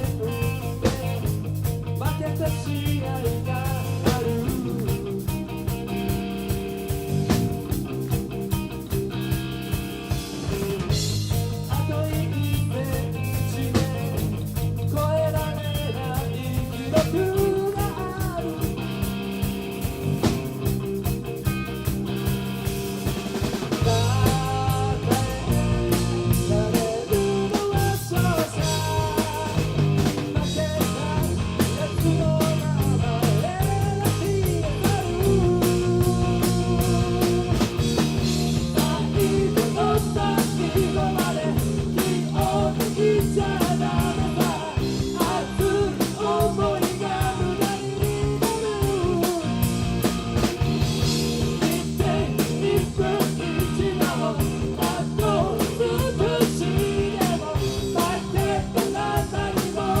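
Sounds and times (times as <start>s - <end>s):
drum kit beat: 0.0s - 60.0s
rock band playing live: 0.0s - 60.0s.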